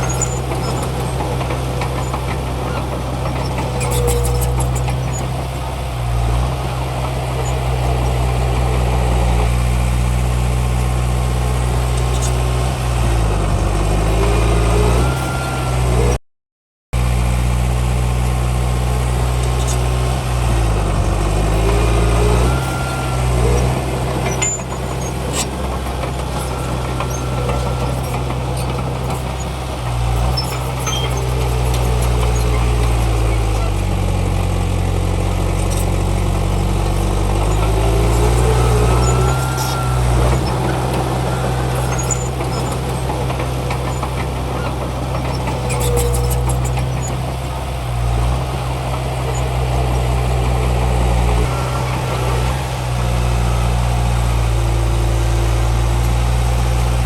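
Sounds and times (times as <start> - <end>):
heavy diesel engine running: 0.0 - 16.2, 17.0 - 57.0.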